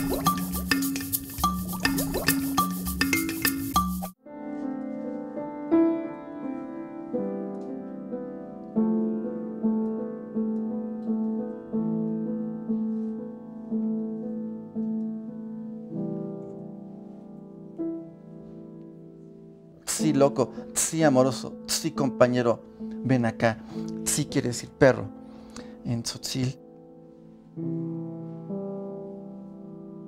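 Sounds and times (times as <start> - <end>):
piano played softly: 0.0 - 30.0.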